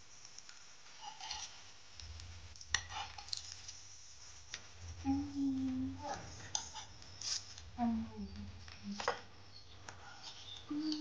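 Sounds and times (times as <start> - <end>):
steady hum: 1.7 - 11.0.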